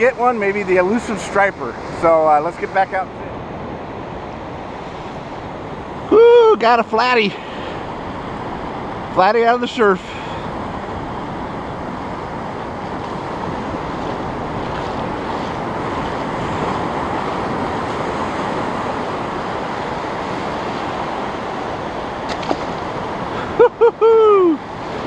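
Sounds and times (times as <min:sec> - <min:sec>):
surf breaking on beach: 0:00.0 - 0:25.0.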